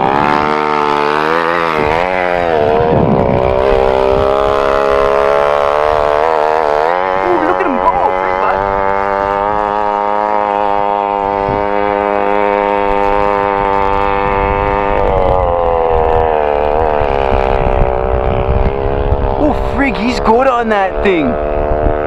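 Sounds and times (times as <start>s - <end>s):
scooter engine buzzing: 0.0s - 22.0s.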